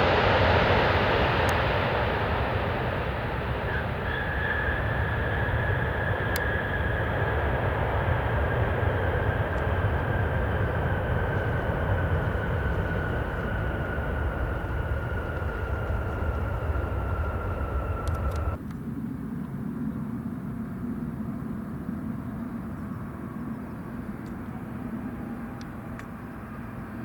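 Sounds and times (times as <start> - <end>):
jet engines rumbling and whining: 0.0 - 27.0.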